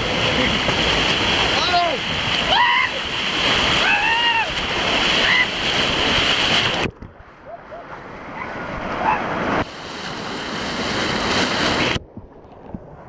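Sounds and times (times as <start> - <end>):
white water splashing: 0.0 - 13.0.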